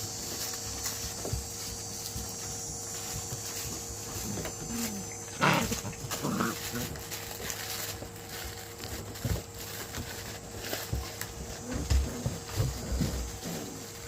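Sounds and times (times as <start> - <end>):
puppies scuffling in play: 0.0 - 14.0
paws thumping and scrabbling: 0.2 - 14.0.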